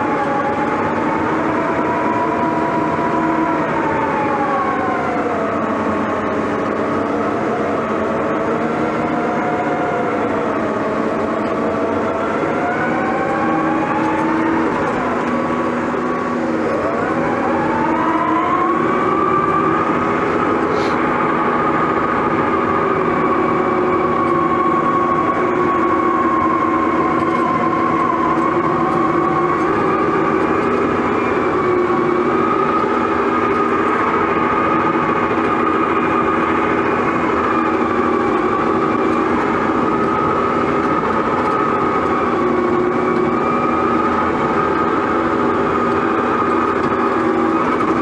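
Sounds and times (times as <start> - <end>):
bulldozer engine whine: 0.0 - 48.0.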